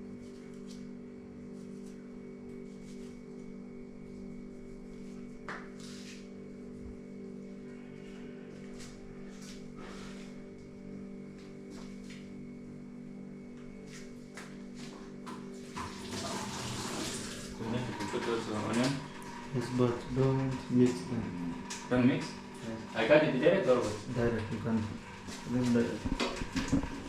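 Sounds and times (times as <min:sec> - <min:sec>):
low hum of held tones: 0:00.0 - 0:27.0.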